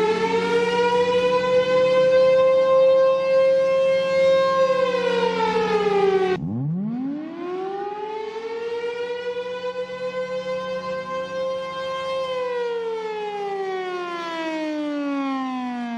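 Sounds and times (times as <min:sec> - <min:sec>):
warning siren wailing: 0:00.0 - 0:15.9.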